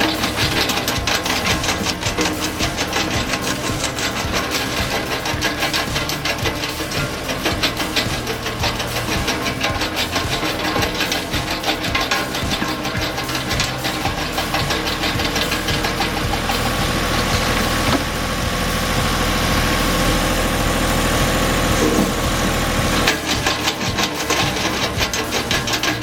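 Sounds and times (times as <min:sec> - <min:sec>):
guitar music: 0:00.0 - 0:26.0
machine engine running: 0:00.0 - 0:26.0.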